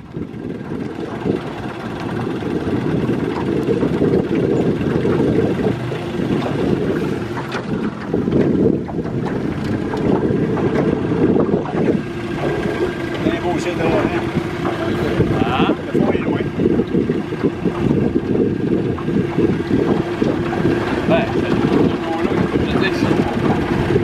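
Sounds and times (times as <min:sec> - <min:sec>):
outboard motor running: 0:00.0 - 0:24.0
wind buffeting microphone: 0:00.0 - 0:24.0.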